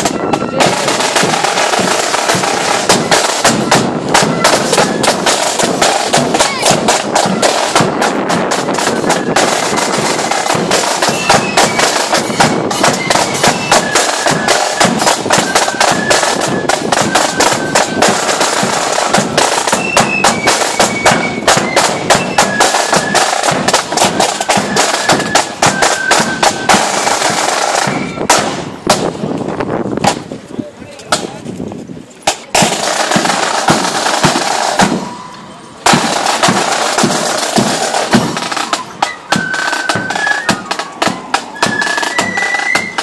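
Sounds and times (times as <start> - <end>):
snare drums beating rapidly: 0.0 - 29.2, 32.3 - 35.2, 35.8 - 43.0
cymbals: 0.0 - 29.3, 32.3 - 43.0
wind instruments melody: 0.0 - 43.0.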